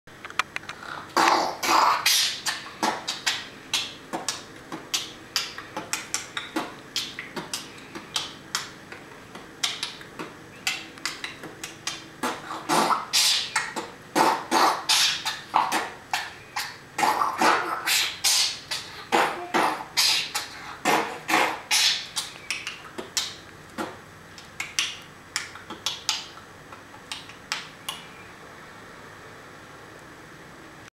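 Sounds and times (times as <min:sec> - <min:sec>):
child beatboxing: 0:00.6 - 0:28.0.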